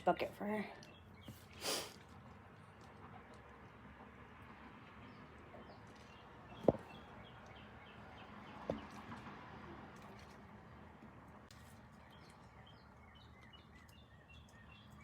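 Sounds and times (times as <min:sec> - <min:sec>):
low outdoor background: 0:00.0 - 0:15.0.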